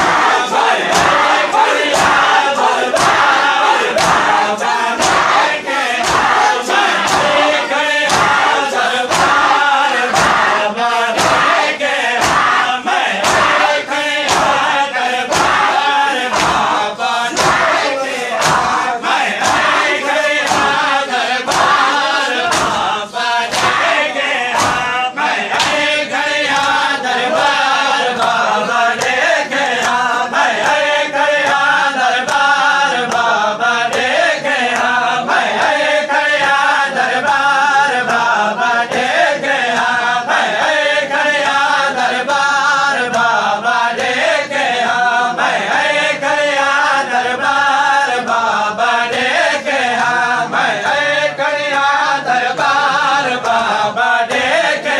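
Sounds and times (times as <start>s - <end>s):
hands slapping chests: 0.0s - 44.7s, 49.1s - 54.9s
men chanting in unison: 0.0s - 54.9s.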